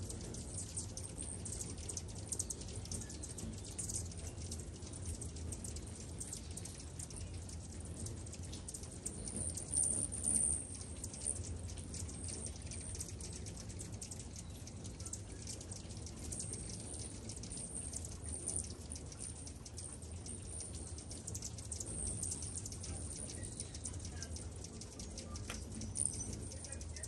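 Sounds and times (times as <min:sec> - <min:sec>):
hummingbirds chirping: 0:00.0 - 0:27.0
steady low hum: 0:00.0 - 0:27.0.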